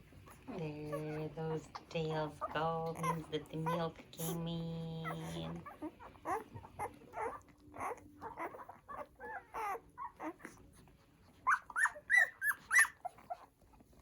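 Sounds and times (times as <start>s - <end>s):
puppies squeaking and whimpering: 0.0s - 14.0s.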